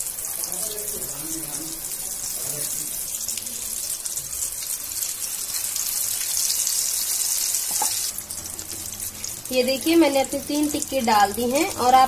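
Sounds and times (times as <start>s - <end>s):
patties sizzling in hot oil: 0.0s - 12.0s.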